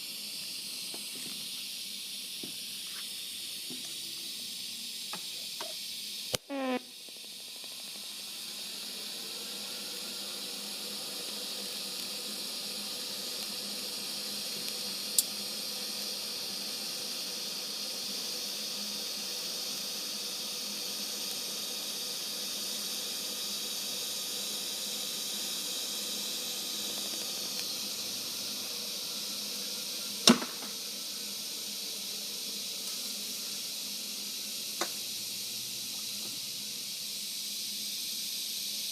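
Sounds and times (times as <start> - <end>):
faint high whine: 0.0 - 38.9
welding arc hissing: 0.0 - 38.9.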